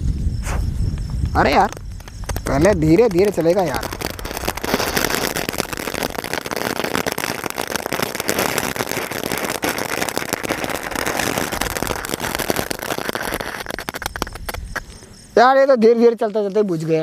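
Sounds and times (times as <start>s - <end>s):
firework fountain crackling: 0.0s - 15.5s.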